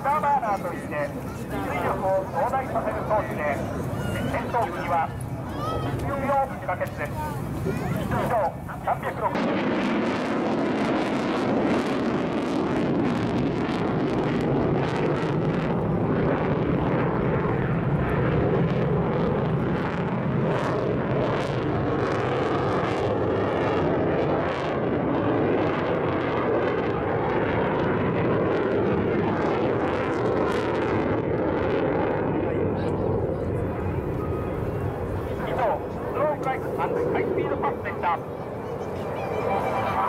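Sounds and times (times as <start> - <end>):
jet engine rumble with crackling: 0.0 - 40.0.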